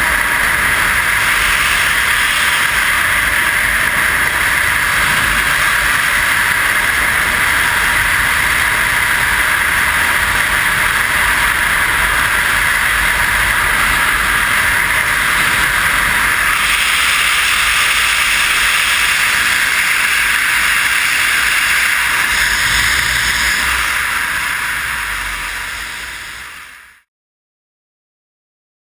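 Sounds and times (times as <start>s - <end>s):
freefall wind buffeting camera: 0.0s - 26.9s.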